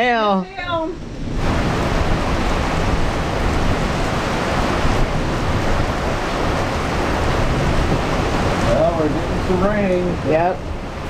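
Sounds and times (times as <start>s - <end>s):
hail and heavy rain pelting: 1.3s - 11.0s.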